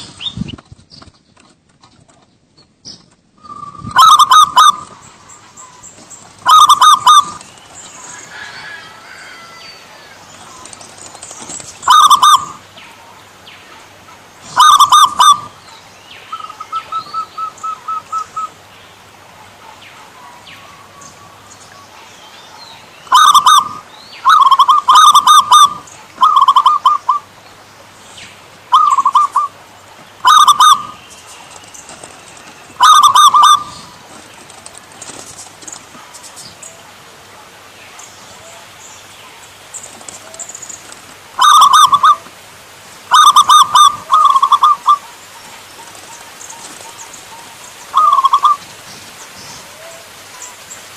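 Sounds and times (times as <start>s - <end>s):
dove cooing: 3.4s - 13.2s, 13.8s - 15.7s, 16.3s - 18.6s, 19.3s - 27.3s, 28.7s - 37.6s, 40.0s - 42.4s, 43.1s - 50.6s.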